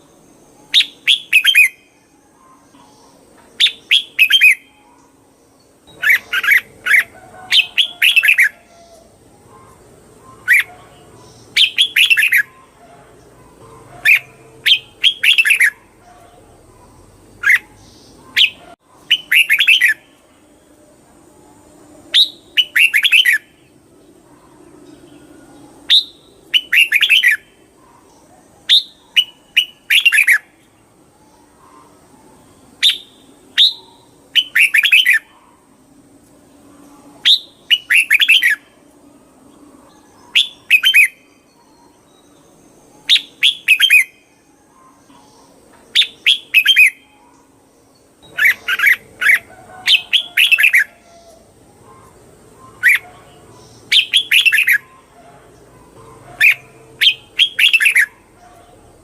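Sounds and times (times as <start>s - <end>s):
bird chirping: 0.0s - 35.8s, 36.4s - 59.0s.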